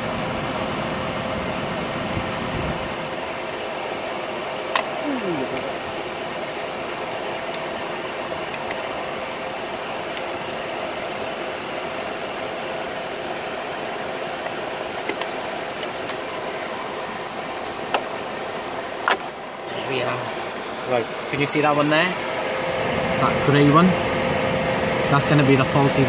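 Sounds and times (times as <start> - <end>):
electric cooling fan humming: 0.0 - 26.0.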